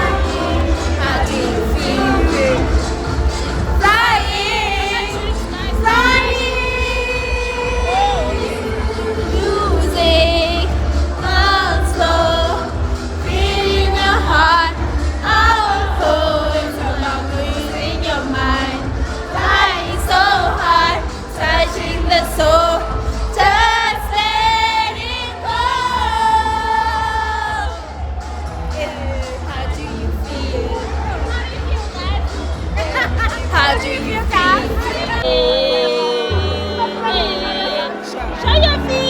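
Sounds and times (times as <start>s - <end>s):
song with sung vocals and bass: 0.0s - 39.0s.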